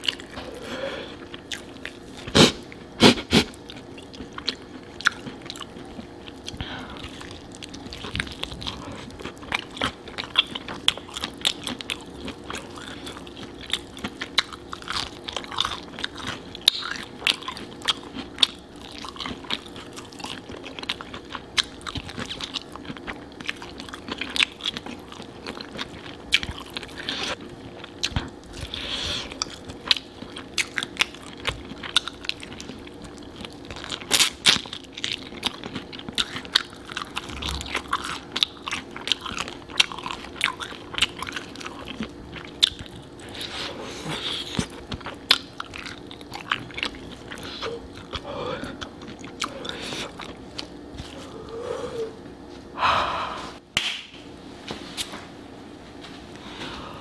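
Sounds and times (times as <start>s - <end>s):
crunchy chewing of fried chicken: 0.0s - 52.8s
faint steady hum: 0.0s - 57.0s.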